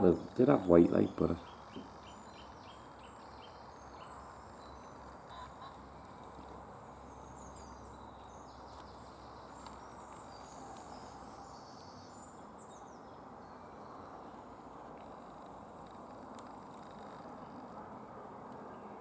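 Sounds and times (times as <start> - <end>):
songbirds chirping and whistling: 0.0 - 17.7.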